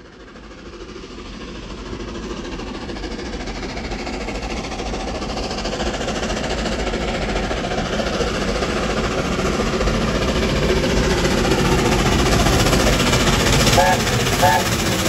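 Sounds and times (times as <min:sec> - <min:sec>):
steam locomotive exhaust beat: 0:00.0 - 0:15.0.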